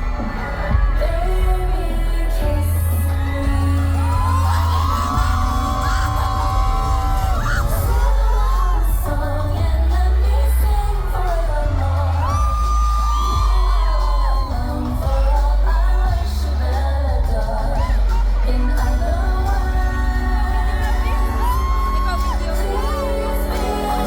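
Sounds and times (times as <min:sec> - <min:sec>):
pop backing track with heavy bass: 0:00.0 - 0:24.0
woman singing: 0:00.0 - 0:24.0.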